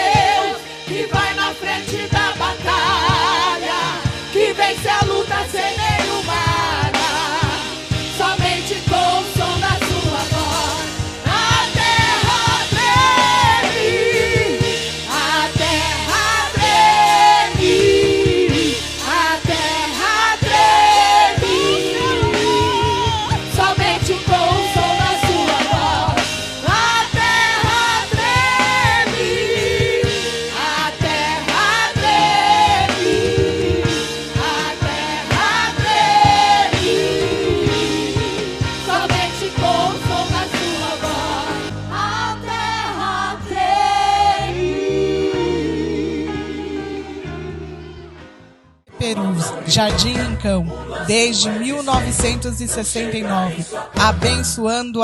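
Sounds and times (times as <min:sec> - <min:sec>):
steady drum beat: 0:00.0 - 0:44.1, 0:49.7 - 0:53.3, 0:54.0 - 0:54.9
vocal group singing gospel: 0:00.0 - 0:48.2, 0:48.9 - 0:55.0
band accompaniment: 0:00.0 - 0:55.0.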